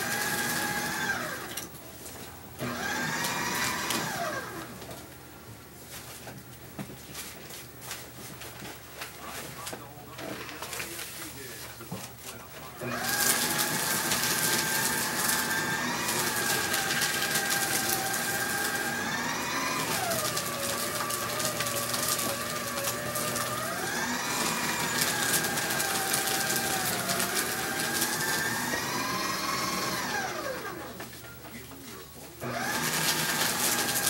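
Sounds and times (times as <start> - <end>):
paper shredder motor whine: 0.0 - 5.2, 7.2 - 31.2, 31.8 - 34.0
paper crackling as it is cut: 5.8 - 31.1, 31.8 - 34.0.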